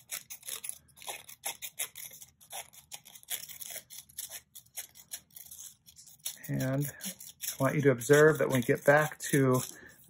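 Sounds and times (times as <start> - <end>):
scissors snipping paper: 0.0 - 10.0.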